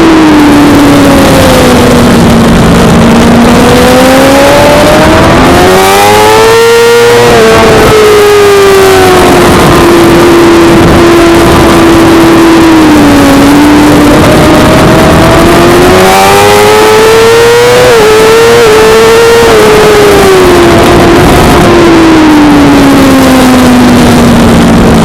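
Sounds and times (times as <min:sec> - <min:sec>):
loud rushing noise: 0:00.0 - 0:25.0
motorcycle engine on track: 0:00.0 - 0:25.0.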